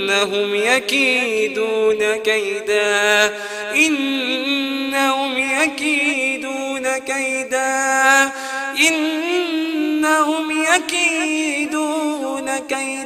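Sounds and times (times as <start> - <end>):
person chanting melodically: 0.0 - 13.0.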